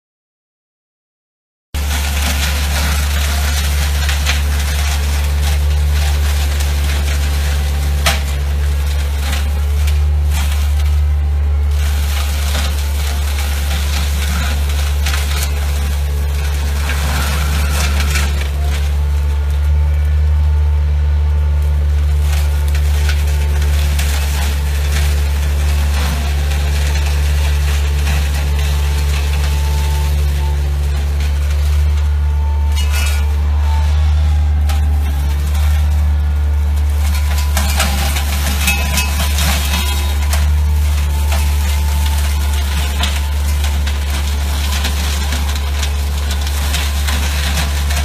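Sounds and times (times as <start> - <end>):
diesel engine drone: 1.8 - 48.0
flail mower shredding hedge: 1.8 - 48.0.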